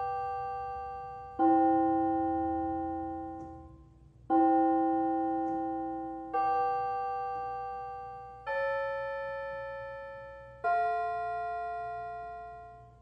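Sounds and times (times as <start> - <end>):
slow quiet piano music: 0.0 - 13.0.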